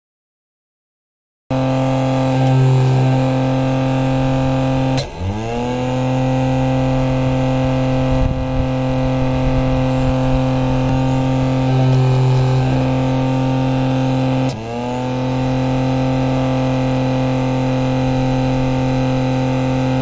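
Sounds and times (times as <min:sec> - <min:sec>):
small motor humming: 0:01.5 - 0:20.0.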